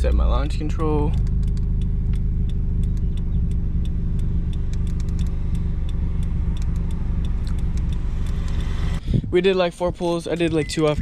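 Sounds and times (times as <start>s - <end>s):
light irregular ticking: 0.0s - 9.0s
car engine running steadily: 0.0s - 11.0s.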